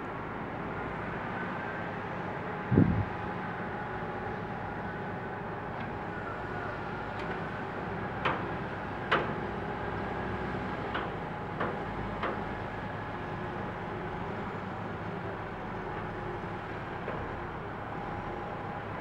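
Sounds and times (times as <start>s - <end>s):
heavy machinery engines droning: 0.0s - 19.0s.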